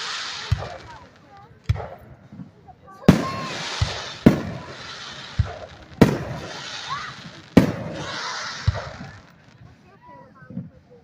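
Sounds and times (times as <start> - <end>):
firework shells bursting: 0.0 - 9.7
hissing crackle: 0.0 - 10.8.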